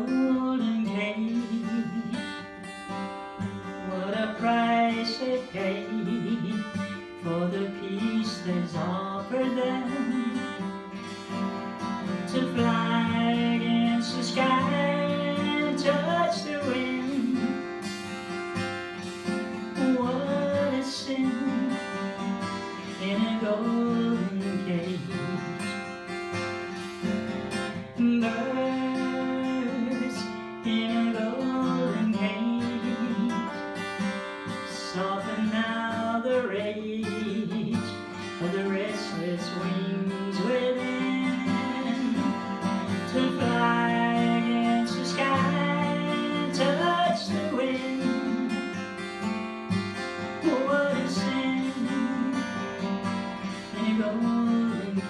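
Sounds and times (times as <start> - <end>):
woman singing: 0.0 - 2.6, 3.6 - 10.9, 11.9 - 17.8, 19.5 - 25.7, 27.8 - 48.8, 50.2 - 55.0
acoustic guitar strummed and picked: 0.0 - 55.0.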